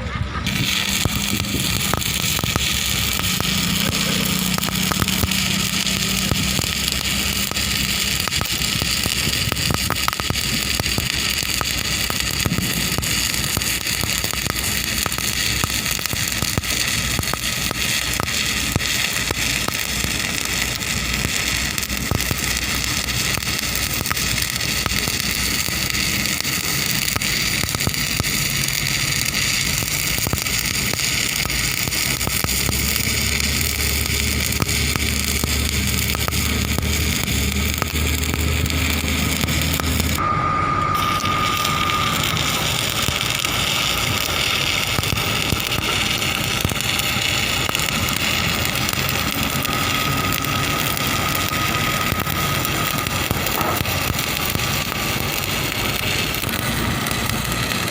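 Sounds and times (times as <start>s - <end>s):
low hum: 0.0s - 57.9s
thin steady whine: 0.0s - 57.9s
welding arc crackling: 0.0s - 57.9s.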